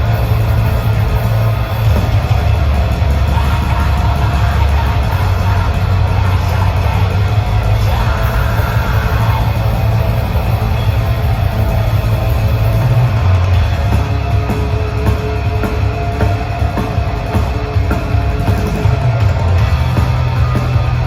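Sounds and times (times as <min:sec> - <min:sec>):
heavy rock band playing live: 0:00.0 - 0:21.0.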